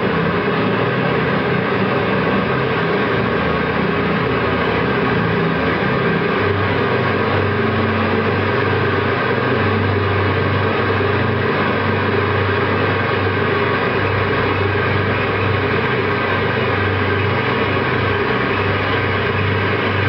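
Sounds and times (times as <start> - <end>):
ambient drone music: 0.0 - 20.0
low sustained hum: 0.0 - 20.0.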